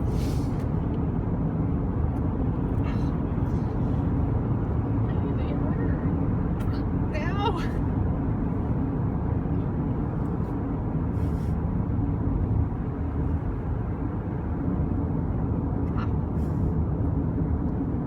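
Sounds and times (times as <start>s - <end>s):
vehicle running low rumble: 0.0s - 18.0s.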